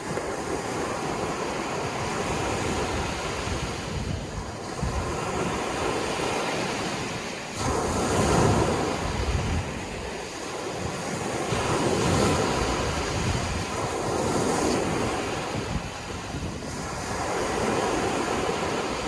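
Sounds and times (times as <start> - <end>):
sea waves breaking: 0.0 - 19.0.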